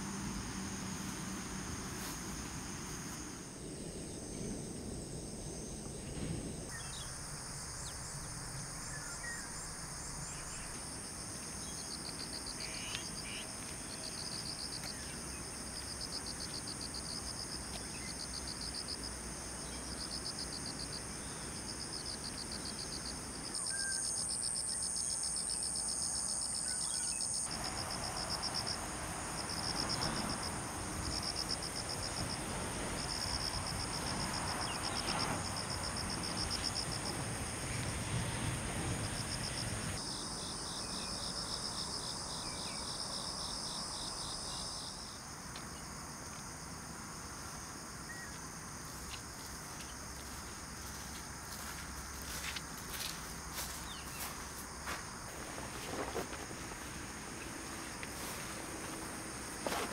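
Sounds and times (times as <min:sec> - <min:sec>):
crickets chirping: 0:00.0 - 0:59.9
high insect trill: 0:00.0 - 0:59.9.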